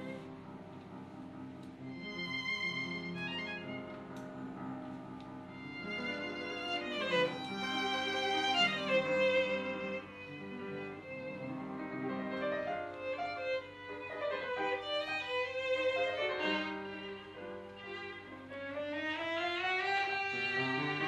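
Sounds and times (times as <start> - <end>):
violin slow melody: 0.0 - 21.0.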